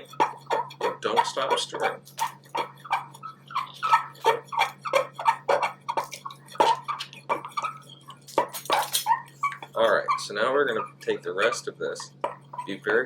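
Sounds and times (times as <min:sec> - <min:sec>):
wet squelching of slime stirring: 0:00.0 - 0:13.0.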